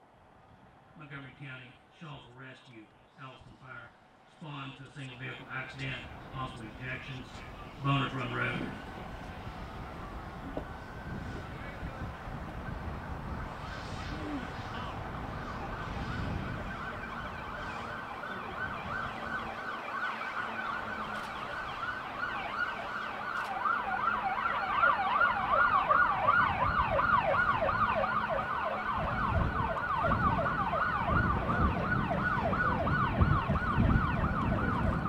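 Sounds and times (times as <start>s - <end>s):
emergency vehicle siren wailing: 5.3s - 35.0s.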